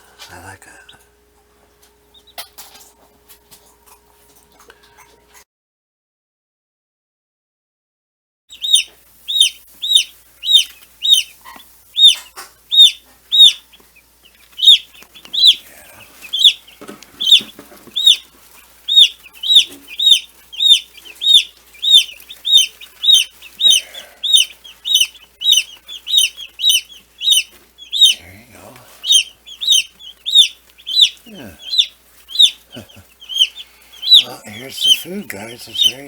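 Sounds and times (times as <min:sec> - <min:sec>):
chicks peeping: 0:00.0 - 0:05.4, 0:08.5 - 0:36.0.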